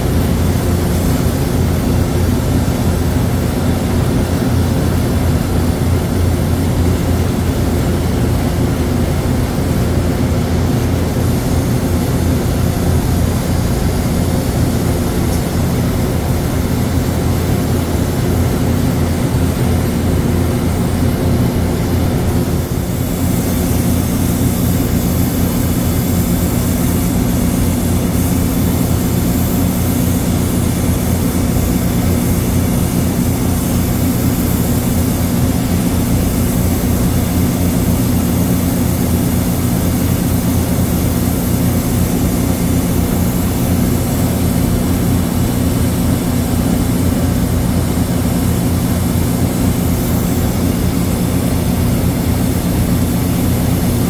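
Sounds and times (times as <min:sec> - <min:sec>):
low machinery hum: 0:00.0 - 0:54.0
torch flame hissing: 0:00.0 - 0:54.0.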